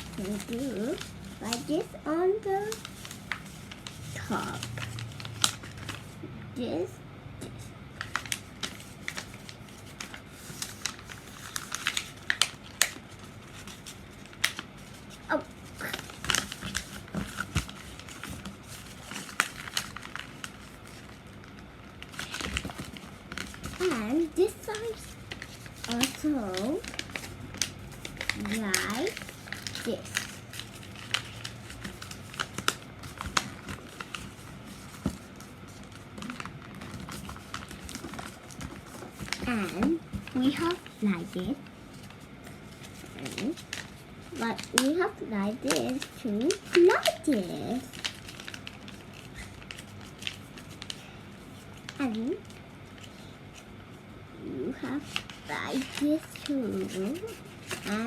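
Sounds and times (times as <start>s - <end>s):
paper being folded: 0.0s - 6.2s, 8.0s - 53.7s, 54.4s - 58.0s.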